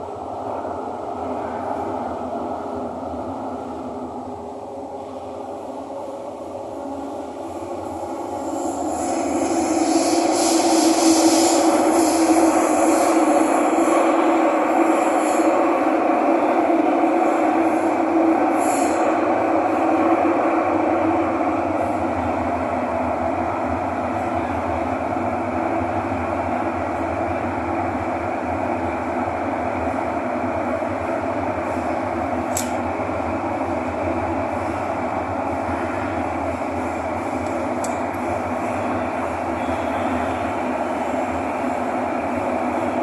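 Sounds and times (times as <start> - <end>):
train rumble in tunnel: 0.0 - 43.0.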